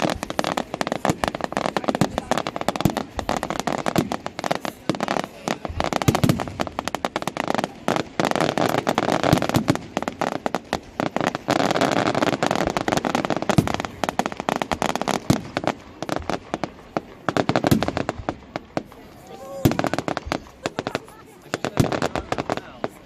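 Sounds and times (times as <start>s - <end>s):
fireworks cracking and popping: 0.0s - 23.0s.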